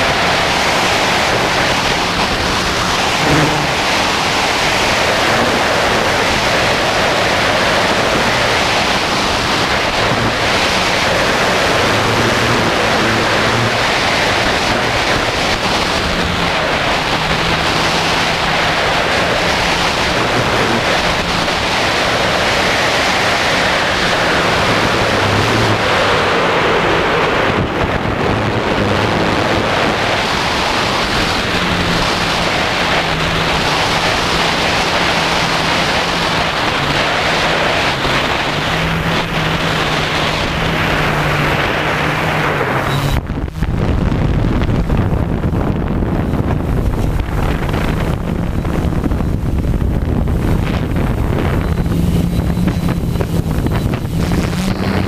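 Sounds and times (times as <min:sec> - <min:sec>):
drone motor hum: 0:00.0 - 0:26.7, 0:30.8 - 0:55.0
prop wash buffeting microphone: 0:00.0 - 0:55.0.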